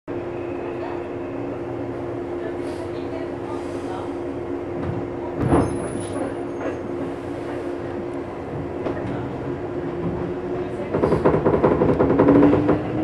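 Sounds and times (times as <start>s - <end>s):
train electrical hum: 0.1s - 13.0s.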